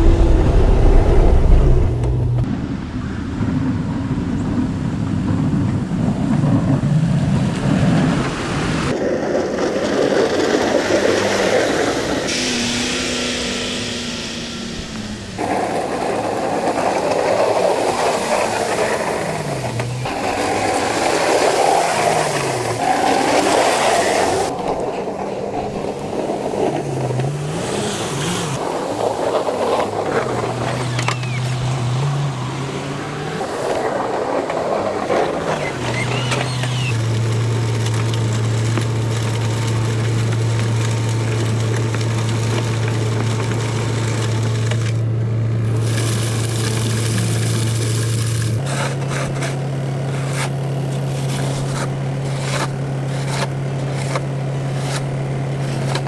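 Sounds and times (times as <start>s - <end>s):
snow scraping noise: 0.0s - 2.5s, 8.9s - 45.0s, 45.6s - 56.0s
snow plow engine: 0.0s - 2.6s, 5.4s - 56.0s.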